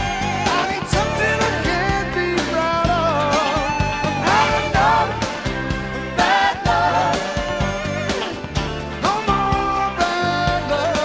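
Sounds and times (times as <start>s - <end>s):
song with guitar: 0.0s - 11.0s.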